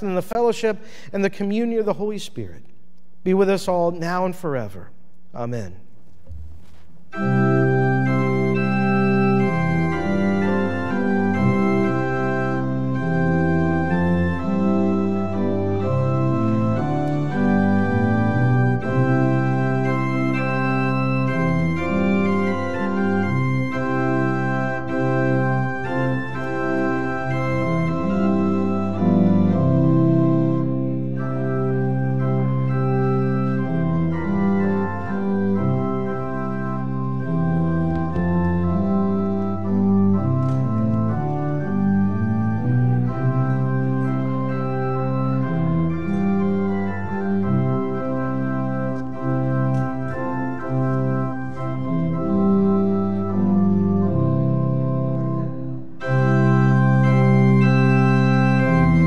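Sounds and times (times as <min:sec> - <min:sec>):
church organ chords: 0:00.0 - 0:05.9, 0:06.6 - 0:59.0.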